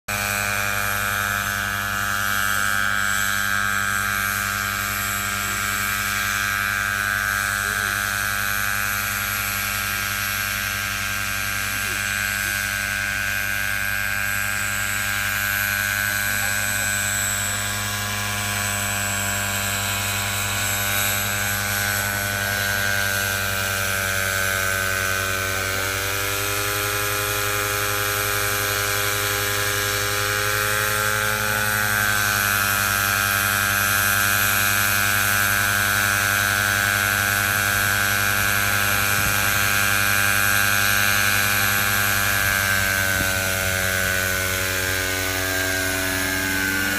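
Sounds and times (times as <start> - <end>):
multicopter rotors humming: 0.1 - 46.9.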